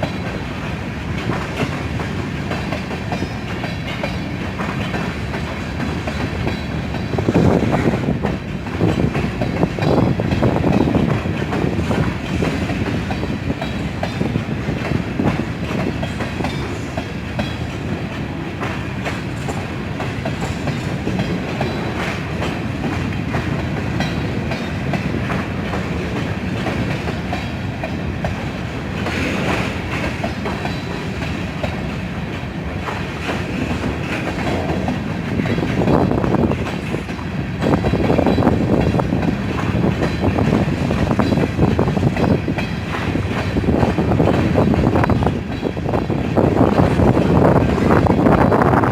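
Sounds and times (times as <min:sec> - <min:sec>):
wheels clicking over rail joints: 0:00.0 - 0:48.6
train cars rumbling: 0:00.0 - 0:48.9.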